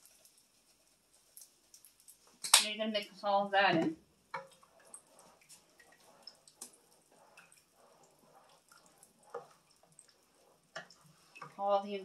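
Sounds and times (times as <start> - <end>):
wooden spoon stirring thick soup: 0.0 - 2.4, 3.7 - 12.0.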